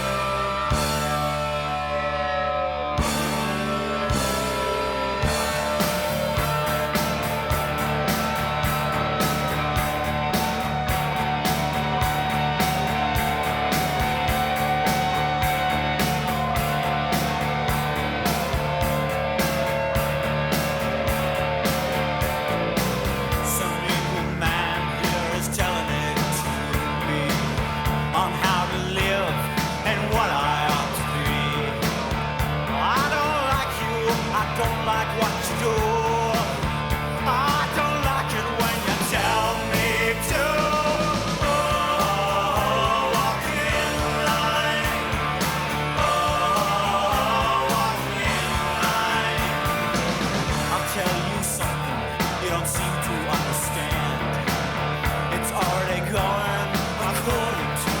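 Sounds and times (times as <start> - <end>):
drums playing: 0.0 - 2.0, 3.0 - 58.0
bass guitar: 0.0 - 58.0
electric guitars: 0.0 - 58.0.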